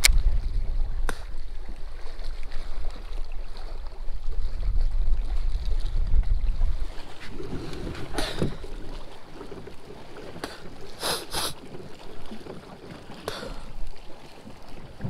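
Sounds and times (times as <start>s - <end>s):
light wind: 0.0s - 15.0s
water lapping: 0.0s - 15.0s.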